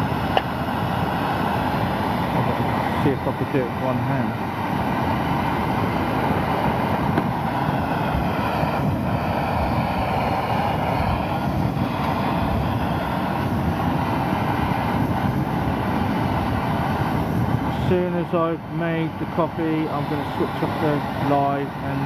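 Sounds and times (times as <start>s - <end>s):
camping stove heating water: 0.0s - 22.0s.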